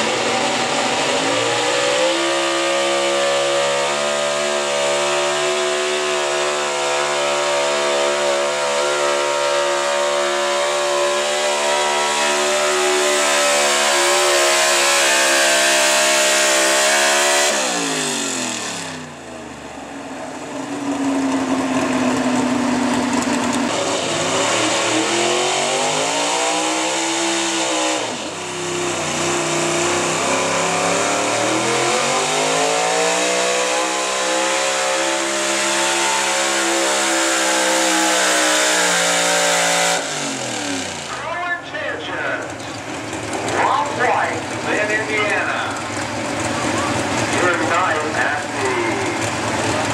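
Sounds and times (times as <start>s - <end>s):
engine revving up and down: 0.0s - 19.3s, 23.0s - 49.9s
truck engine at full throttle: 0.0s - 49.9s.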